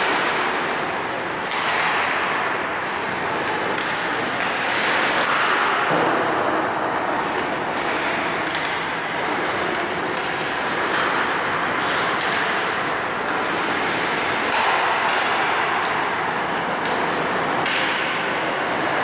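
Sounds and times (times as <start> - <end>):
hiss of rink noise: 0.0 - 19.0.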